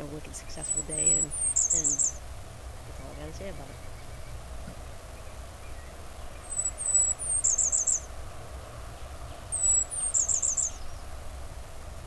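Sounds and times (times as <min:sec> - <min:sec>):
bird singing high thin song: 0:00.0 - 0:08.1, 0:08.9 - 0:11.2.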